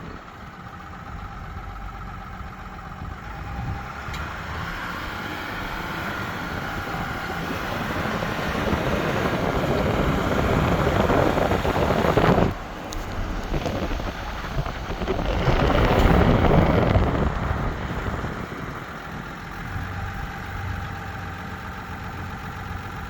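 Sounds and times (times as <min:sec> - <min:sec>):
pickup truck driving: 0:00.0 - 0:23.0.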